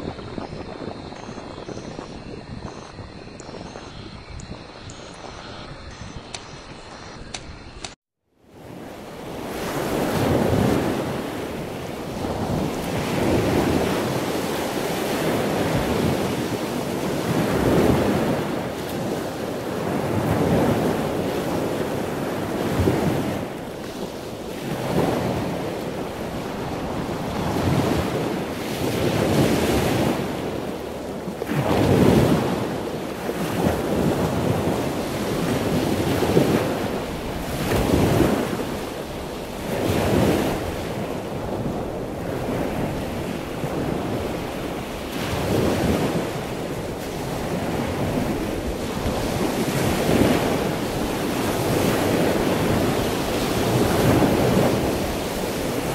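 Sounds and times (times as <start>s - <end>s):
wind rushing over microphone: 0.0s - 55.9s.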